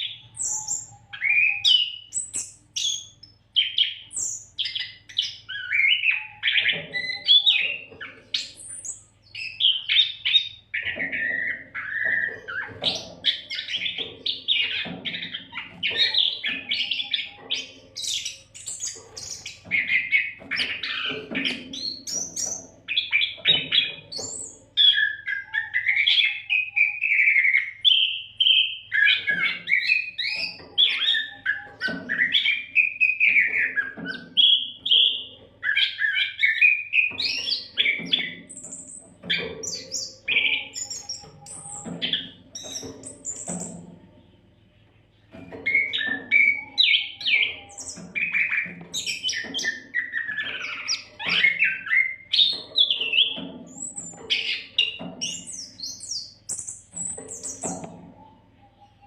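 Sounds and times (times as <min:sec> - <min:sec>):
songbird whistling and trilling: 0:00.0 - 0:43.8, 0:45.3 - 0:59.0.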